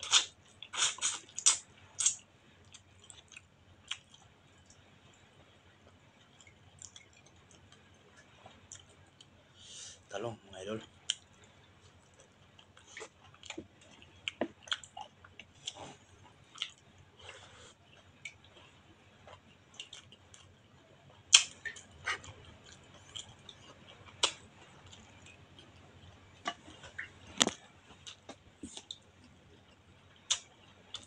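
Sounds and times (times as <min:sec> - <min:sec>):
wet chewing and lip-smacking: 0:00.0 - 0:04.8, 0:05.8 - 0:09.3, 0:12.0 - 0:20.6, 0:21.3 - 0:31.0.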